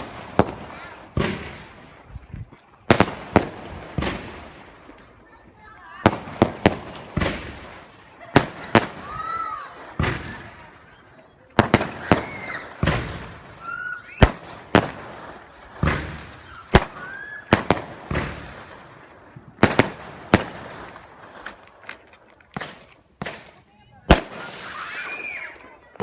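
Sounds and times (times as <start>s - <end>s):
firework bangs: 0.0s - 2.1s, 2.8s - 21.8s, 22.5s - 26.0s
firework shots whooshing: 0.0s - 2.1s, 2.9s - 5.0s, 6.0s - 10.7s, 11.6s - 21.7s, 22.6s - 25.6s.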